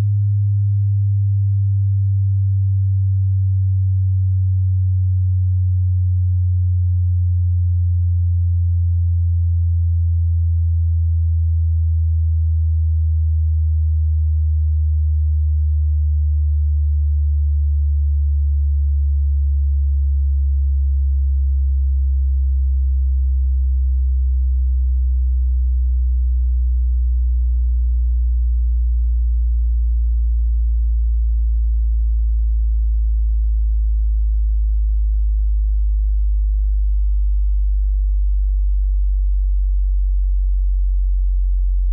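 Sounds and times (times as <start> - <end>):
sine tone sweeping lower: 0.0 - 41.9.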